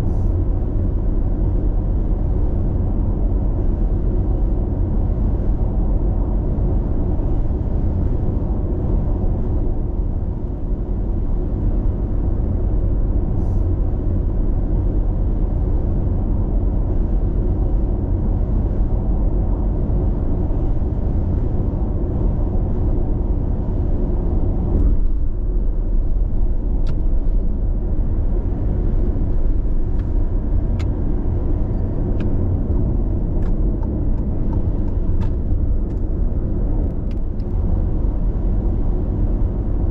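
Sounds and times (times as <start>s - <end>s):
road and tyre noise in car cabin: 0.0s - 39.9s.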